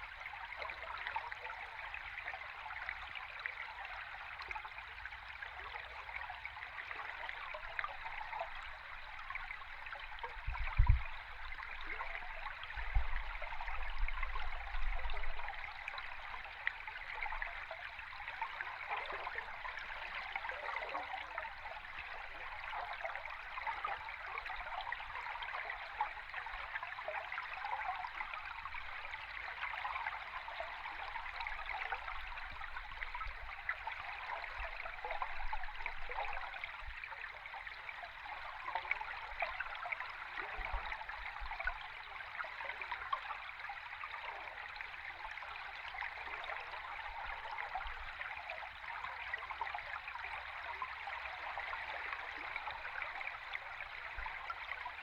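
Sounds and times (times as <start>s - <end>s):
underwater flowing water: 0.0s - 55.0s.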